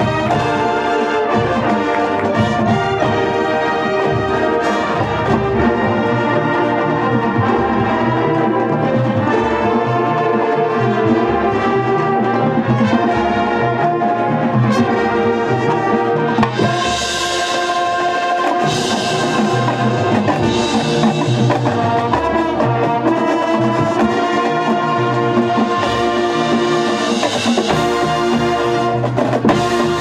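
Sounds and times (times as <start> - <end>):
marching band playing: 0.0 - 30.0.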